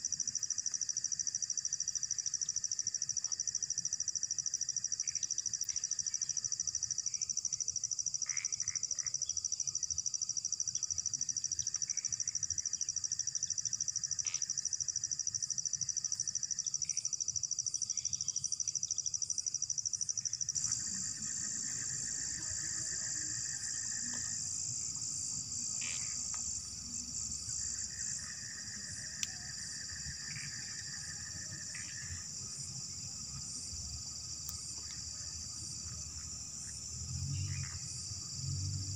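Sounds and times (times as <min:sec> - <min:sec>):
high-pitched insect trill: 0:00.0 - 0:38.9
lower insect trill: 0:00.0 - 0:38.9.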